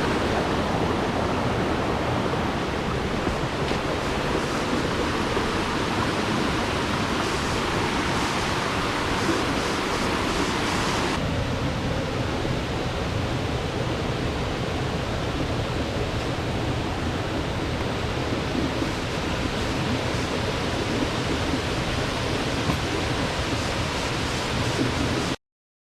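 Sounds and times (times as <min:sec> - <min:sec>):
water rushing: 0:00.0 - 0:25.4.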